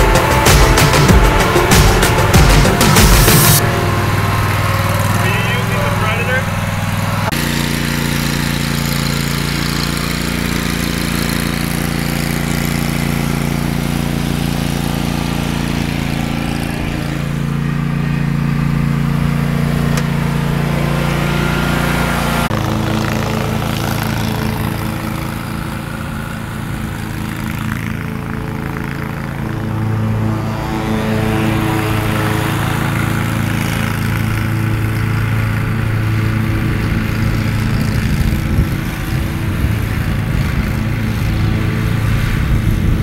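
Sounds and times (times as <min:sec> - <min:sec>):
lawn mower engine running: 0:00.0 - 0:43.0.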